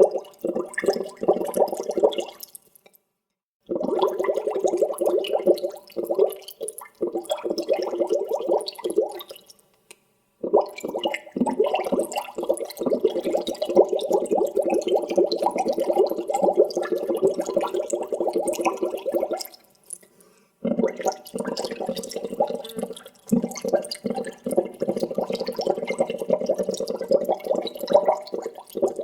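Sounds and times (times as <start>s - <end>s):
water bubbling: 0.0s - 2.5s, 3.6s - 9.4s, 10.4s - 19.6s, 20.6s - 29.0s.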